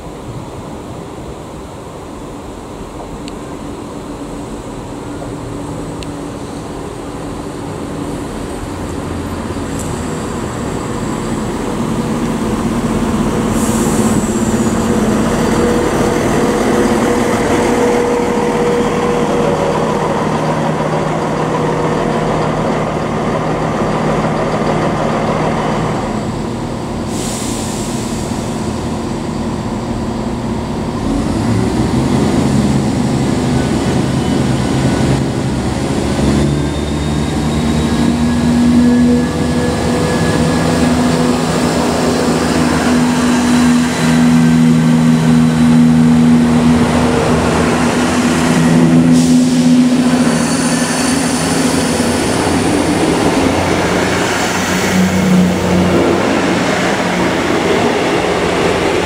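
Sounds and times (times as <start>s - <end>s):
diesel train engines running: 0.0s - 59.0s
train running: 0.0s - 59.0s.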